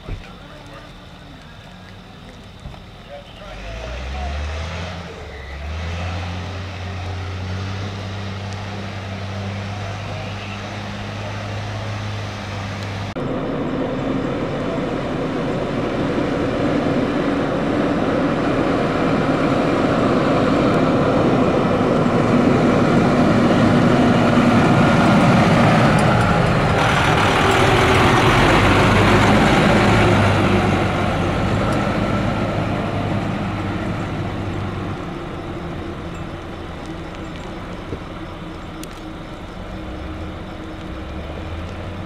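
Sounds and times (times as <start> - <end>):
large vehicle engine passing by: 0.3 - 42.0.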